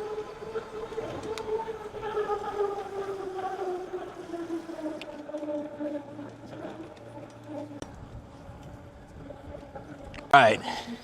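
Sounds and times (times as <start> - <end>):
electric bike motor whining: 0.0 - 11.0
road and wind noise: 0.0 - 11.0.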